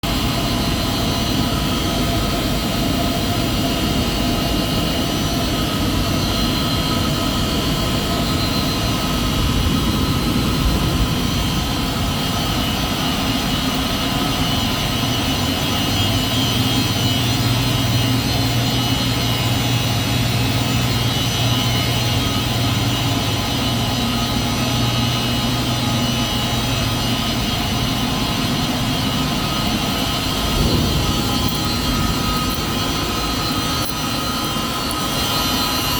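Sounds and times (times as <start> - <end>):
hvac airy rush: 0.0 - 35.9
low drone: 0.1 - 35.9
steady tones: 5.1 - 35.9.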